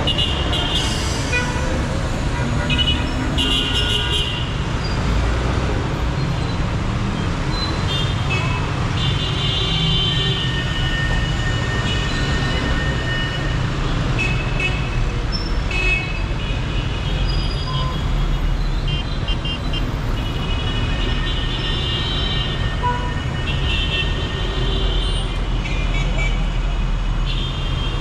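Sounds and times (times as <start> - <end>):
traffic engines running: 0.0 - 28.0.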